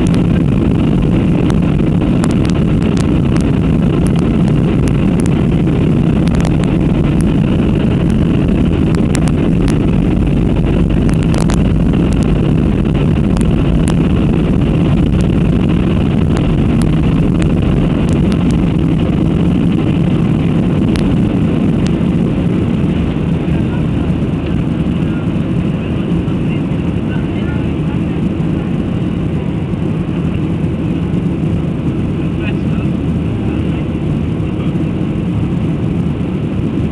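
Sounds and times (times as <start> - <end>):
airplane engines droning: 0.0 - 36.9.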